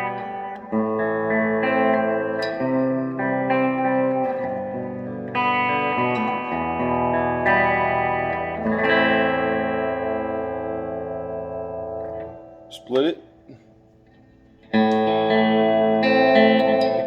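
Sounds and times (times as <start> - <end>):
electric guitar notes and chords: 0.0 - 17.0.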